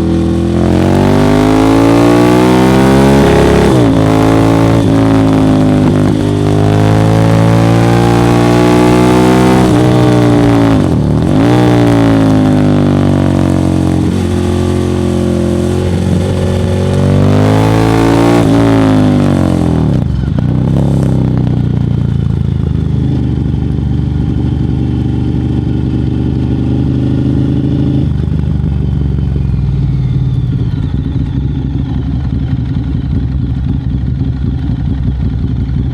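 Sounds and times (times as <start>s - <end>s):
motorcycle engine revving and idling: 0.0s - 35.9s.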